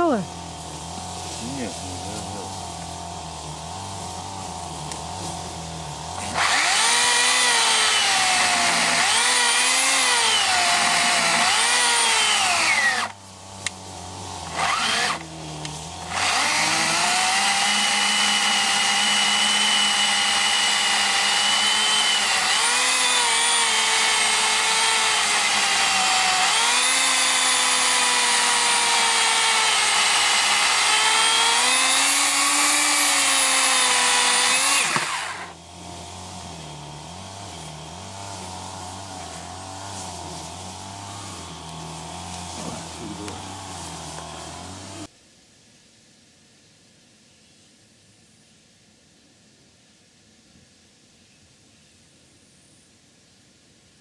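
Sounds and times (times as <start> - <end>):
electric chainsaw cutting log: 0.0 - 45.1.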